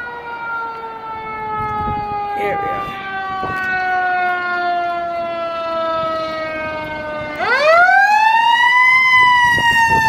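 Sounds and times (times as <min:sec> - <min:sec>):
fire engine siren wailing: 0:00.0 - 0:10.0.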